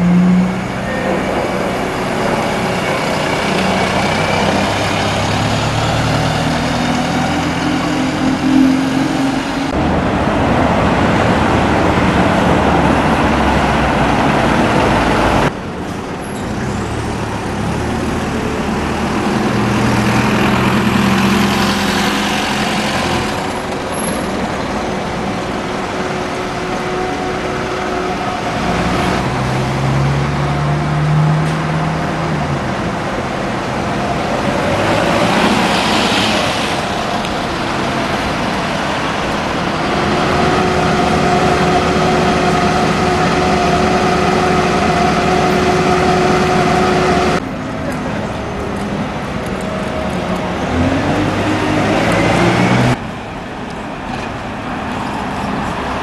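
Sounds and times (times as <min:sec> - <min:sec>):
diesel bus engines running: 0:00.0 - 0:56.0.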